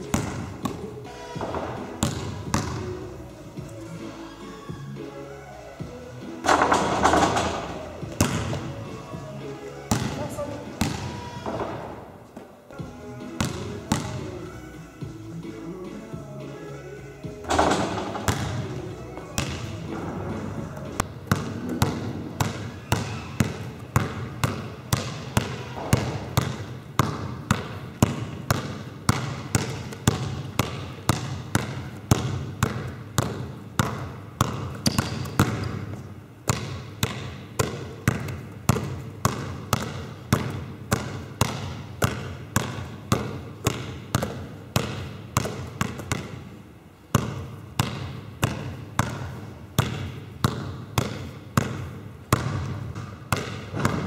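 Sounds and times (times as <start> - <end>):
basketballs bouncing on hall floor: 0.0 - 4.9, 5.8 - 16.3, 17.1 - 54.0.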